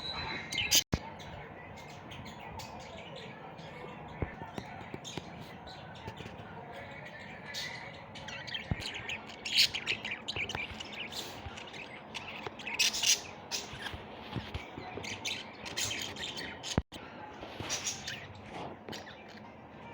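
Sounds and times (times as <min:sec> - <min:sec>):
birds chirping and squawking: 0:00.0 - 0:19.9.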